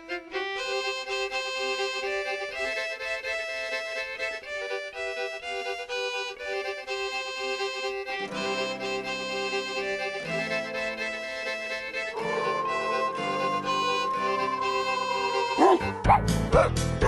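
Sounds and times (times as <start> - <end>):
fiddle-led tune: 0.0 - 16.9.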